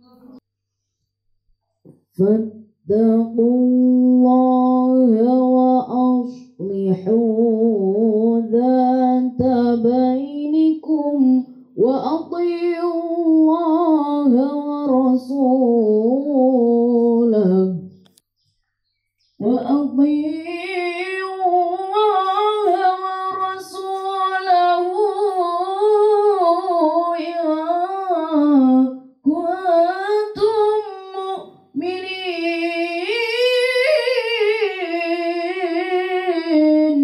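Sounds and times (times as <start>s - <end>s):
boy chanting recitation: 2.1s - 18.1s, 19.4s - 37.0s.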